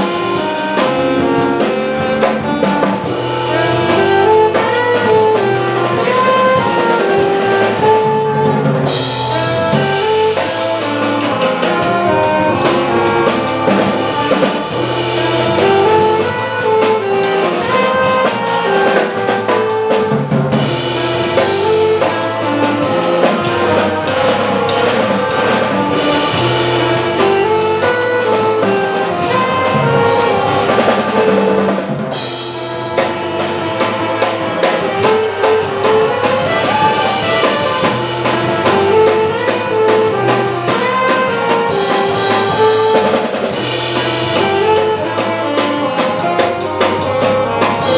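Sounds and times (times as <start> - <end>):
drum kit with cymbals: 0.0 - 47.9
saxophone line: 0.0 - 47.9.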